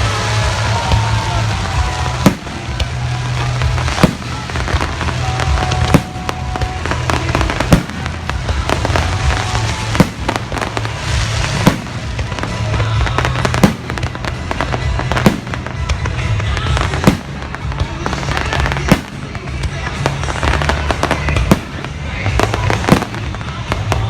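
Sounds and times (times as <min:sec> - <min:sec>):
crackling of small fireworks: 0:00.0 - 0:24.0
music playing: 0:00.0 - 0:24.0
firework shells bursting: 0:00.8 - 0:24.0.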